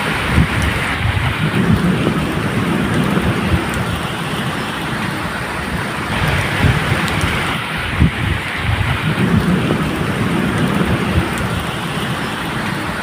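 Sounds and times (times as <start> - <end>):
low rumble of thunder: 0.0 - 13.0
steady rain: 0.0 - 13.0.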